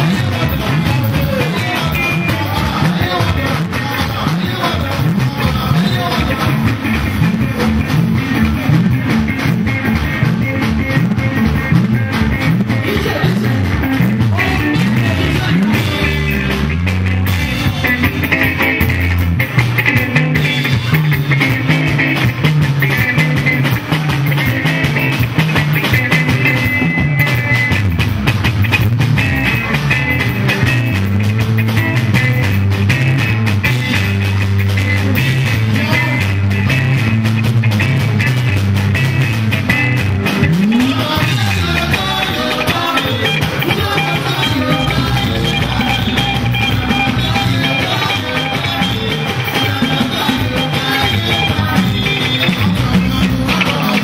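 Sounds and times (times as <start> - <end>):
bass line: 0.0 - 54.0
busy drum beat: 0.0 - 54.0
electric guitars: 0.0 - 54.0.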